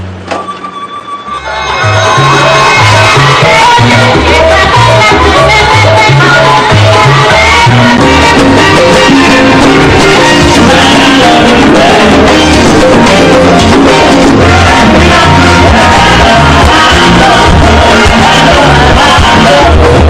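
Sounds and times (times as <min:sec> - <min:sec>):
pulsing bass line: 0:00.0 - 0:20.0
music with singing: 0:01.3 - 0:20.0.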